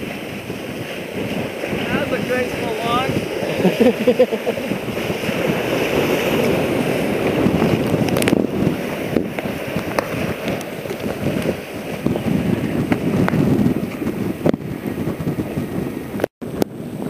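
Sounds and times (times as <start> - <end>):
waves splashing and sloshing: 0.0 - 17.0
wind buffeting microphone: 0.0 - 17.0.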